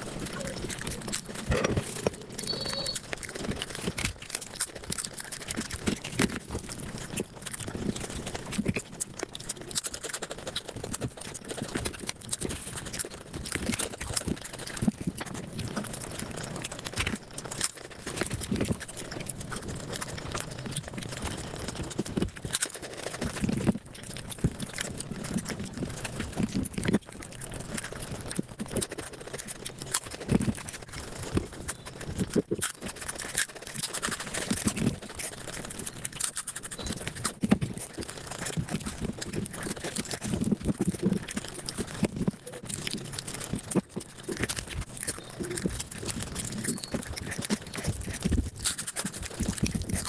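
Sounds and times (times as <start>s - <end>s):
sped-up chewing and lip-smacking: 0.0s - 50.0s.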